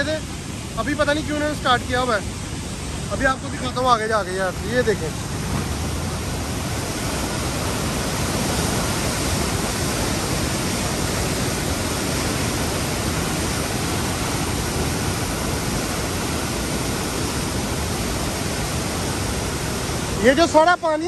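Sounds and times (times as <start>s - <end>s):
turbulent water rushing: 0.0s - 21.0s.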